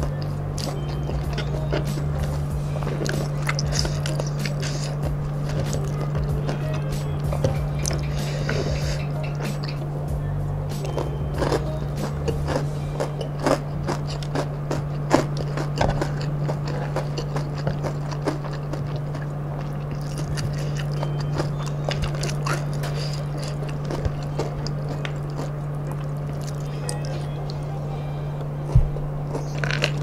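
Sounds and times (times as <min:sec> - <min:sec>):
fingers picking through food: 0:00.0 - 0:09.9, 0:10.7 - 0:30.0
crunchy chewing: 0:00.0 - 0:10.0, 0:10.6 - 0:27.7, 0:28.3 - 0:30.0
steady low hum: 0:00.0 - 0:30.0.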